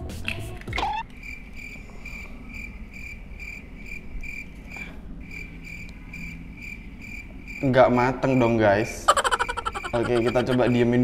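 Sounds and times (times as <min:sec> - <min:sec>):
insect chirping: 0:00.8 - 0:11.0.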